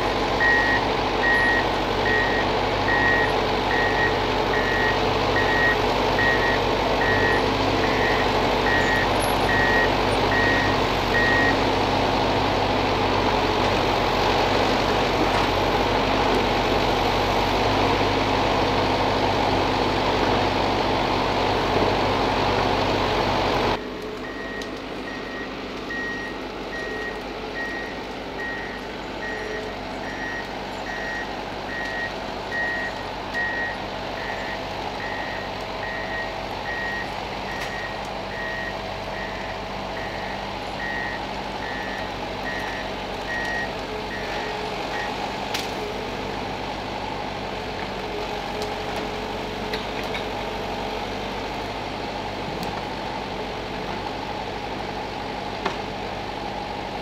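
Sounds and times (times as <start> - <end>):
forestry machine engine running: 0.0 - 57.0.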